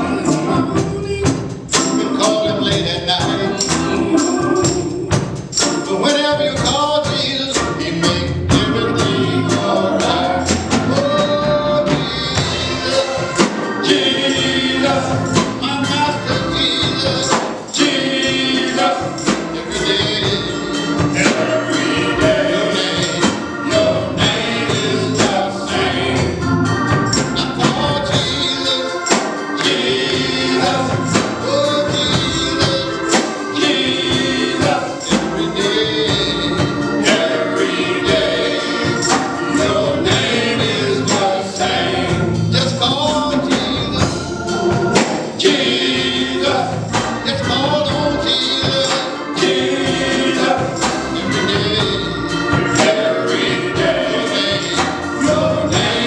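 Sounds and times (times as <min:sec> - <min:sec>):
band playing: 0:00.0 - 0:56.0
choir singing: 0:00.0 - 0:56.0
steady percussive beat: 0:00.0 - 0:56.0.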